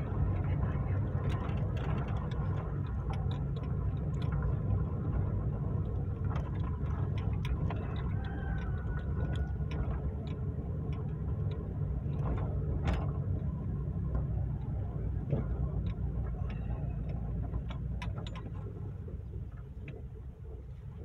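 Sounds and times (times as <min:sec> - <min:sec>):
small clicks and rattles: 0:00.0 - 0:20.9
engine and road rumble: 0:00.0 - 0:21.0.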